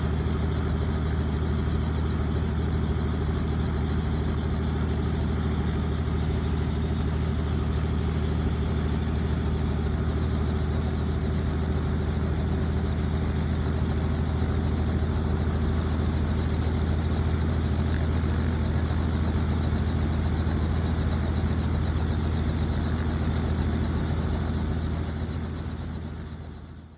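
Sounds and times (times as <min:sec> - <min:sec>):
helicopter engine and rotor drone: 0:00.0 - 0:26.9.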